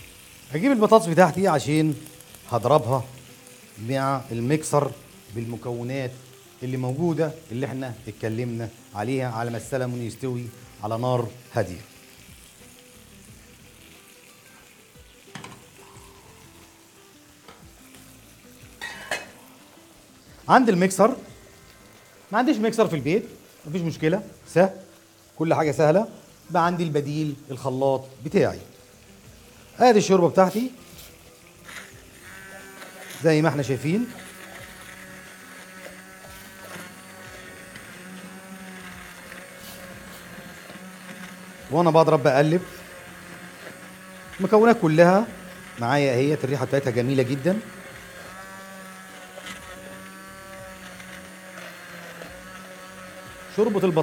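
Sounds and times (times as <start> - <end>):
fish sizzling in a pan: 0.0 - 54.0
immersion blender motor hum: 1.8 - 5.6, 6.2 - 24.5, 28.9 - 54.0.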